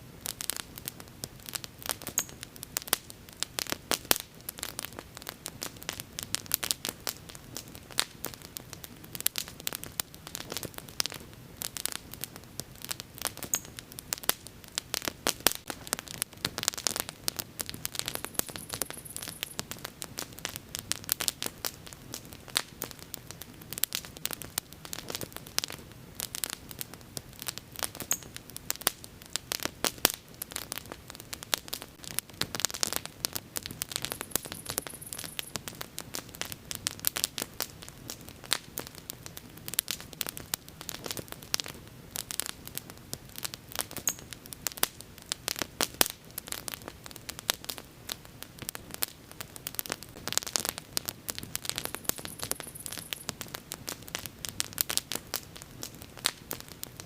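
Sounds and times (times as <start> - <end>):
sharp snaps of fire: 0.1 - 57.0
wood fire crackling and popping: 0.2 - 57.0.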